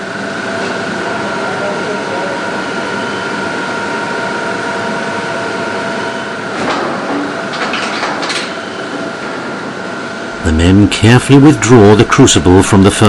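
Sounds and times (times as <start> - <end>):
industrial machinery hiss and whine: 0.0 - 13.0.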